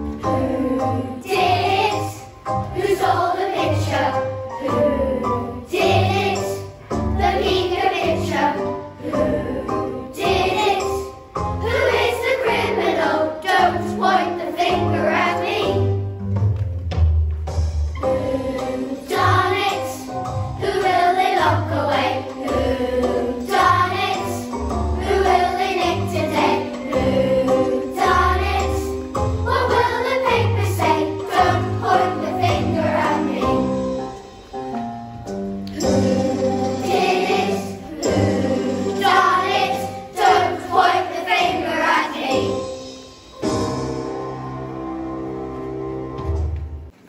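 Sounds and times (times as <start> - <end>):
children singing: 0.0 - 15.9, 18.0 - 34.0, 35.7 - 42.8
instrumental accompaniment: 0.0 - 47.0.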